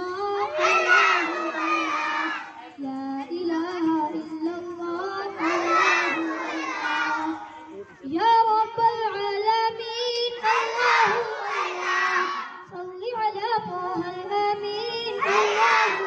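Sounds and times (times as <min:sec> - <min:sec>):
boy singing into a microphone: 0:00.0 - 0:16.0.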